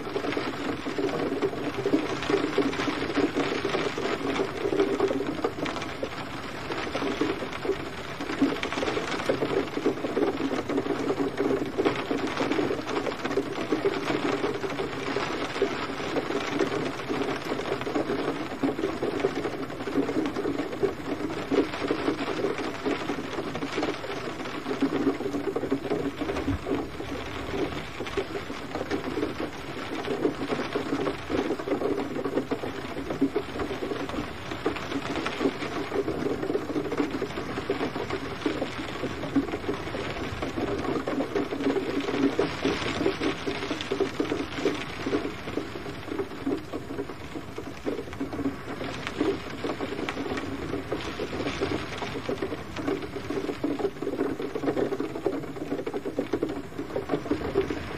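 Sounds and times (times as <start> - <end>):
gentle rain patter: 0.0 - 57.9.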